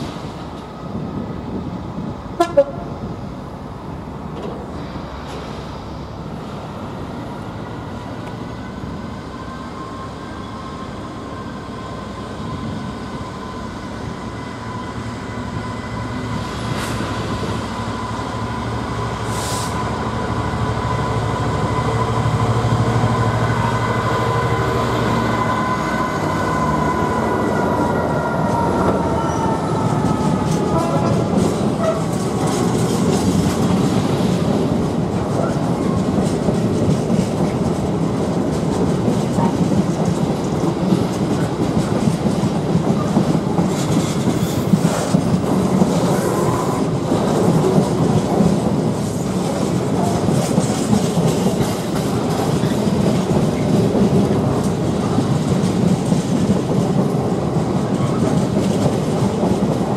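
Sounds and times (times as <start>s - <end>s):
train approaching: 0.0s - 59.9s.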